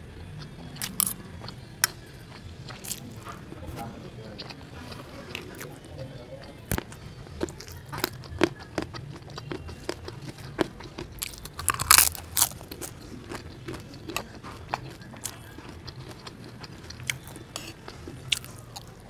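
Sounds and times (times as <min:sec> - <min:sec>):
chewing: 0:00.0 - 0:19.0
crisp cracker crunching: 0:00.7 - 0:19.0.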